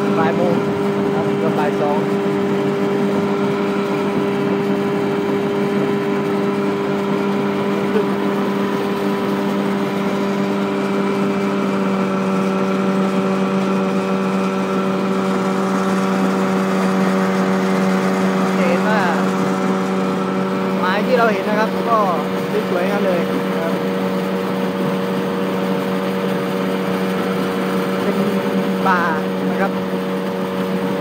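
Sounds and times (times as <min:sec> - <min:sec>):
boat engine droning: 0:00.0 - 0:31.0
water rushing: 0:00.0 - 0:31.0.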